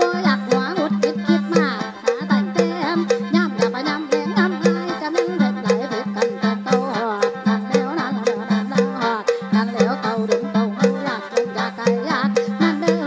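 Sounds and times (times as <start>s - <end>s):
percussion beat: 0.0s - 13.0s.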